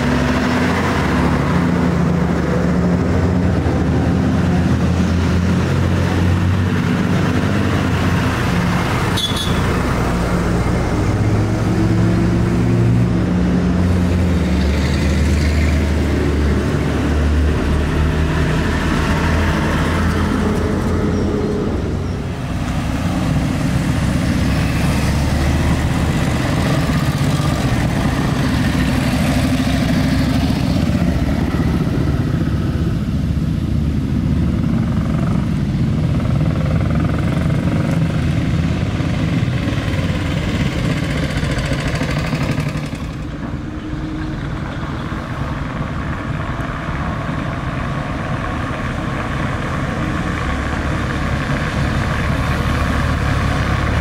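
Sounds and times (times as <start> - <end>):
military vehicle engines rumbling: 0.0 - 54.0.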